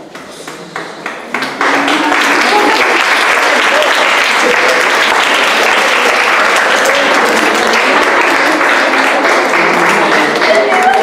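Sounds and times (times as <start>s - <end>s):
audience applause: 0.7s - 11.0s.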